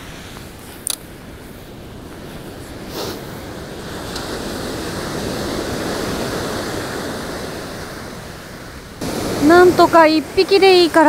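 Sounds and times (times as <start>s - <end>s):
surf breaking on beach: 1.8s - 11.0s.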